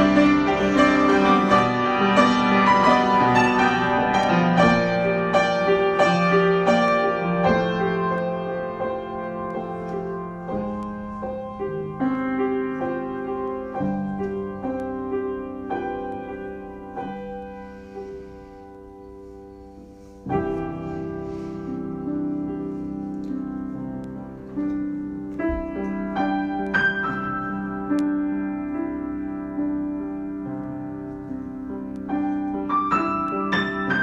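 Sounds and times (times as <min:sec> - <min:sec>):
solo piano: 0:00.0 - 0:34.0.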